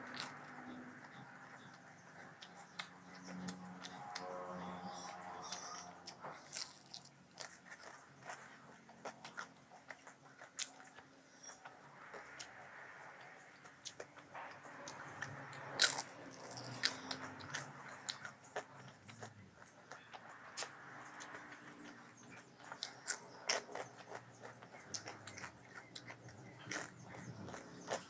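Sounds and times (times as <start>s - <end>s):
crunching and chewing snack: 0.0s - 28.0s.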